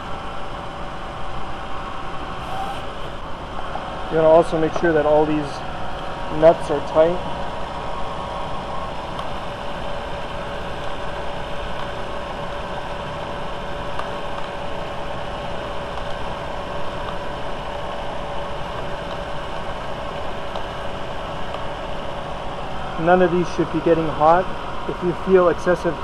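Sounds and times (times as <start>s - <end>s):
steady engine whine: 0.0s - 26.0s.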